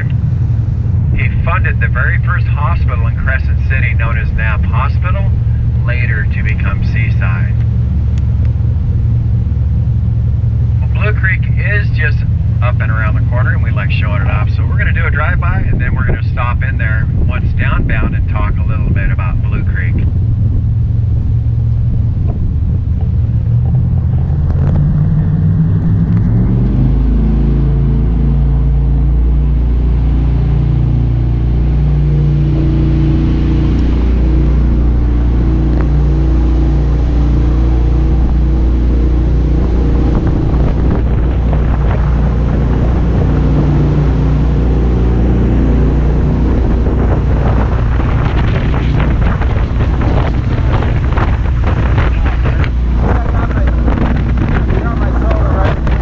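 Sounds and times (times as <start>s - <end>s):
jet boat engine revving: 0.0s - 56.0s
rush of wind and water: 0.0s - 56.0s.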